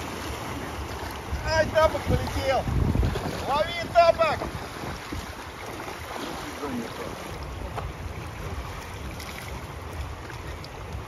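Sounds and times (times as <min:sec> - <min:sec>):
wind rumbling on microphone: 0:00.0 - 0:06.4, 0:07.3 - 0:11.0
river water rushing: 0:00.0 - 0:11.0.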